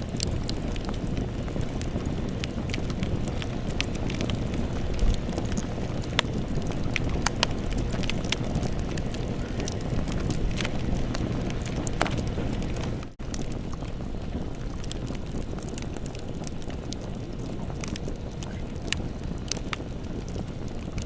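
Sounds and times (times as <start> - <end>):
burning wood crackling and popping: 0.0 - 21.0
campfire flames rushing: 0.0 - 21.0.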